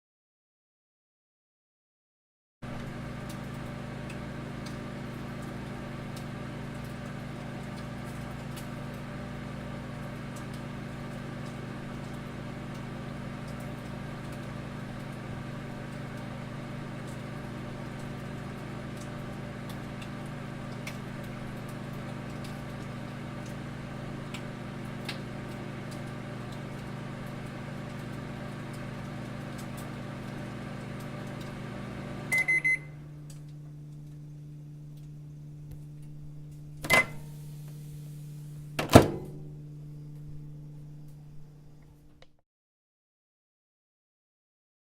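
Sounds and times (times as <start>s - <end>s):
microwave oven hum: 2.6s - 42.4s.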